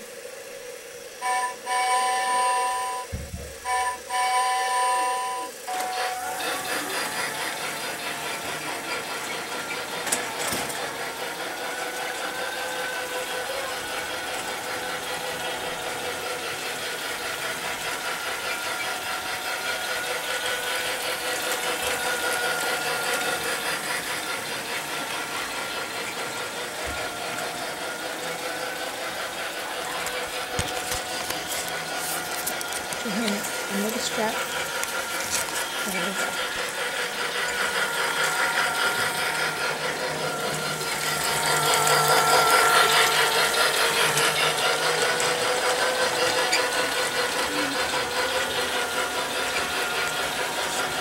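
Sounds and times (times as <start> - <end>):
toy train motor whine: 0.0 - 51.0
wheels rattling on track: 5.5 - 51.0.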